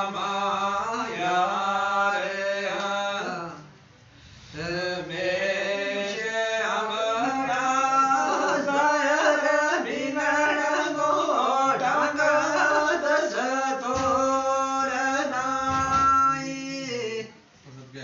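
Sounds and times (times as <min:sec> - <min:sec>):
man singing unaccompanied: 0:00.0 - 0:03.8, 0:04.6 - 0:17.4.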